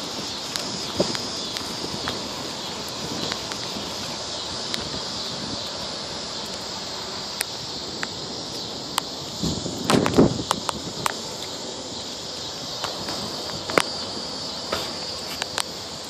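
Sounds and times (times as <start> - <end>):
bicycle tyres on pavement: 0.0 - 16.0
wind rushing: 0.0 - 16.0.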